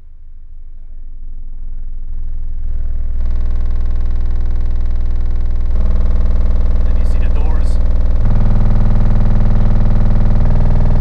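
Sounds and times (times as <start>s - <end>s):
subwoofer low bass tone: 0.0s - 11.0s.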